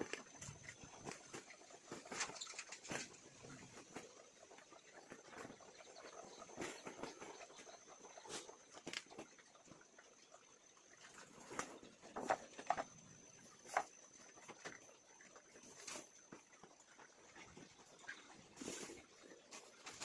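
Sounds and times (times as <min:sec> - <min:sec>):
chickens tapping and scratching: 0:00.0 - 0:20.0.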